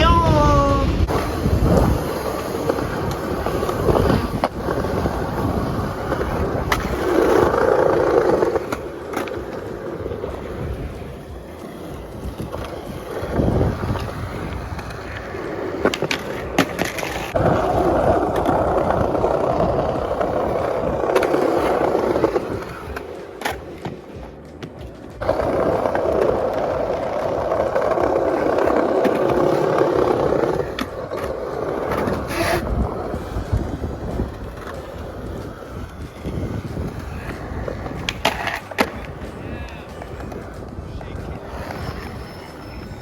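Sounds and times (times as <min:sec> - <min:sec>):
skateboard wheels rolling on pavement: 0:00.0 - 0:43.0
skateboard clacks: 0:00.8 - 0:43.0.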